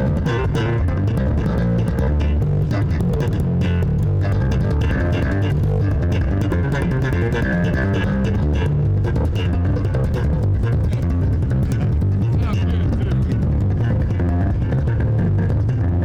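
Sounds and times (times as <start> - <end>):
bass guitar: 0.0 - 16.0
guitar playing: 0.0 - 16.0.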